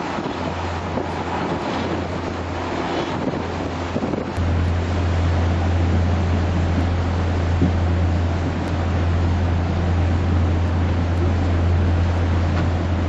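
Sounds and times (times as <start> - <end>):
boat engine drone: 0.0 - 13.0
wind buffeting microphone: 0.0 - 13.0.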